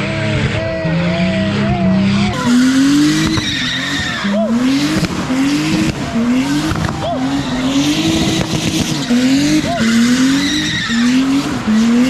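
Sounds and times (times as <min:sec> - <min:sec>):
car engine revving hard: 0:00.0 - 0:12.0
tires screeching: 0:00.0 - 0:12.0.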